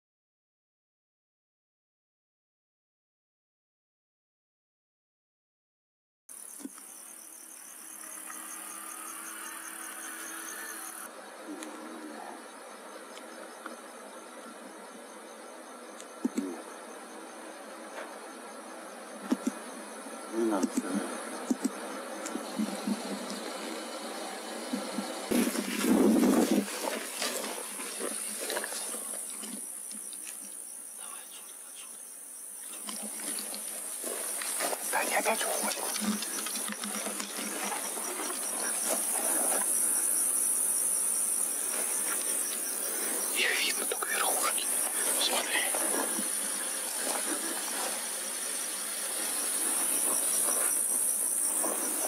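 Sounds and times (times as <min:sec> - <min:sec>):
crickets and insects chirring: 0:06.3 - 0:52.0.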